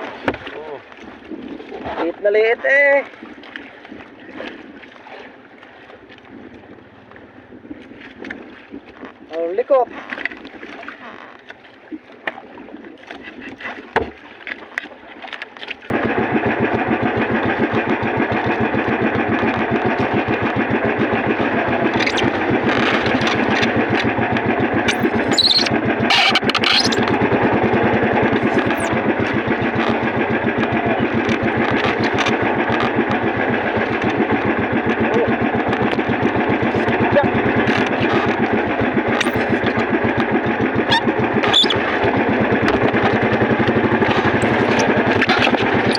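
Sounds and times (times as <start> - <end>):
small boat engine running: 0.0 - 45.9.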